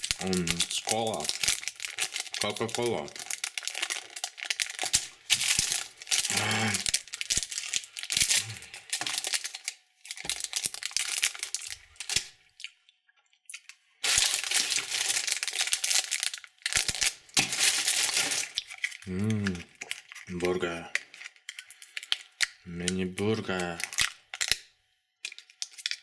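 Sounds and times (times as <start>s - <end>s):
plastic wrappers crinkling and tearing: 0.0s - 12.7s, 13.5s - 26.0s.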